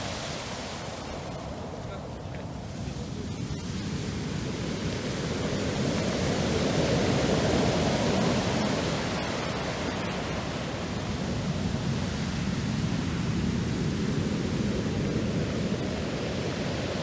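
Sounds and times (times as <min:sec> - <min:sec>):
wave breaking on shore: 0:00.0 - 0:17.0.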